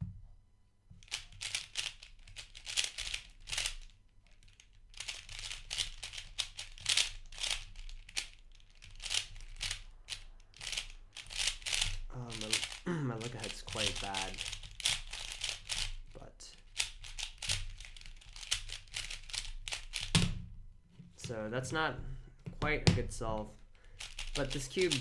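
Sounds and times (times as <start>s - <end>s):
puzzle cube plastic clacking: 1.0s - 20.3s, 23.6s - 25.0s.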